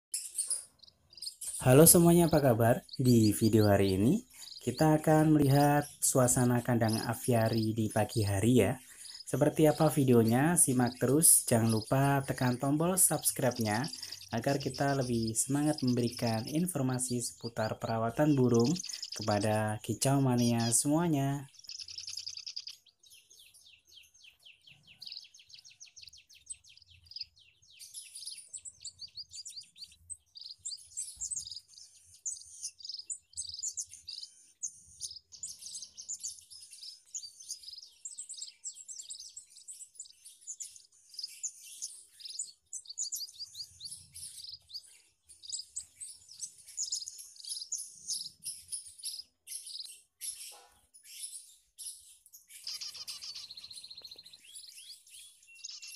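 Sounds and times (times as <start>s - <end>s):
finches chirping and twittering: 0.1s - 55.9s
rapid bird trill: 0.1s - 55.9s.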